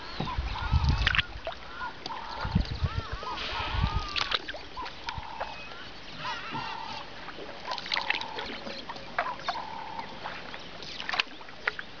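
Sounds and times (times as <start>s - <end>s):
water splashes: 0.0s - 12.0s
oar squeaking: 0.2s - 11.2s.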